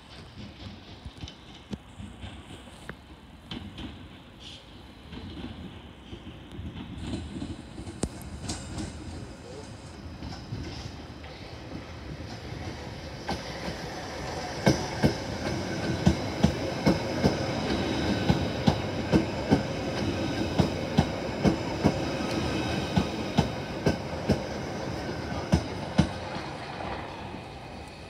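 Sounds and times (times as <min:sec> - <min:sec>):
train rolling noise: 0:00.0 - 0:28.0
train wheels clicking over joints: 0:00.0 - 0:28.0.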